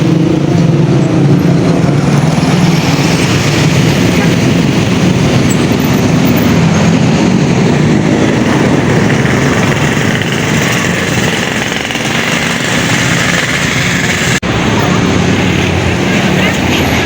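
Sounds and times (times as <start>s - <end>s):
bus engine running: 0.0s - 17.0s
road and traffic noise: 0.0s - 17.0s.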